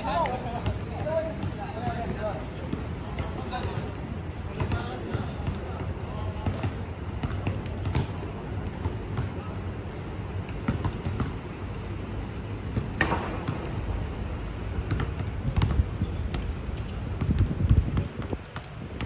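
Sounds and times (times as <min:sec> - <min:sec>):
basketball bouncing: 0:00.1 - 0:09.4, 0:10.4 - 0:11.8, 0:12.7 - 0:13.9, 0:14.8 - 0:19.0.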